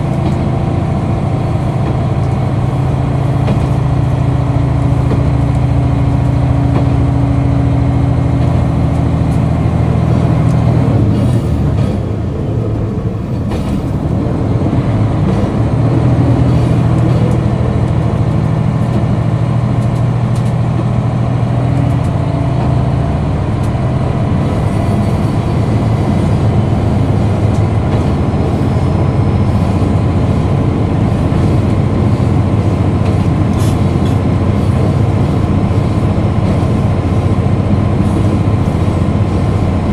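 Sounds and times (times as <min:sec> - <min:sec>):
diesel engine droning: 0:00.0 - 0:39.9
train running on rails: 0:00.0 - 0:39.9.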